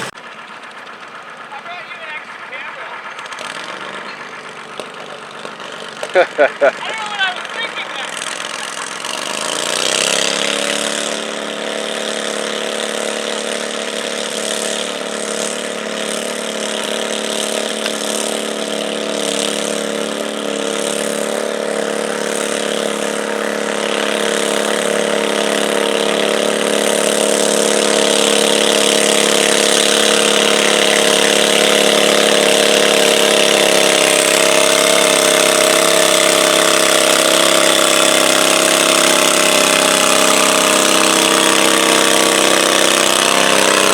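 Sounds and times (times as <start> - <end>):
garden tractor engine revving: 0.0 - 43.9.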